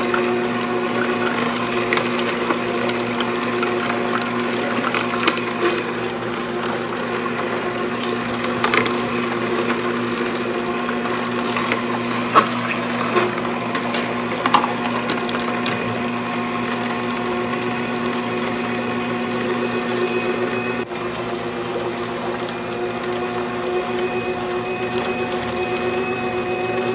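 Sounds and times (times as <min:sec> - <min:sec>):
juicer motor humming: 0:00.0 - 0:26.9.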